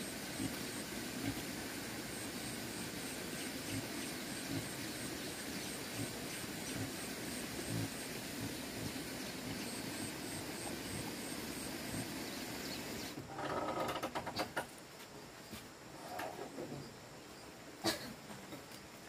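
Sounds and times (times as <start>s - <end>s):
faint high insect chirp: 0.0s - 19.0s
outdoor background hiss: 0.0s - 19.0s.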